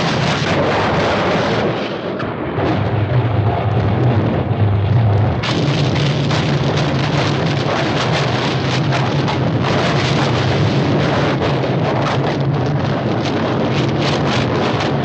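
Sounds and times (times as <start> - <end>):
cartoon ground cracking rumble: 0.0 - 15.0.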